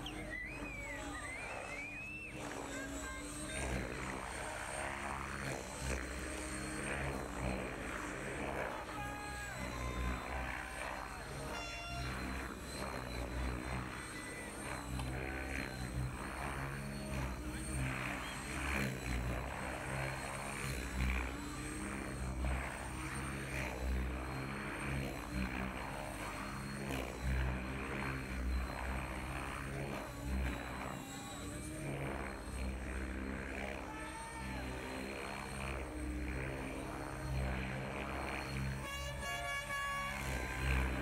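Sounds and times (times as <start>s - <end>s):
helicopter rotor chopping and whooshing: 0.0s - 41.0s.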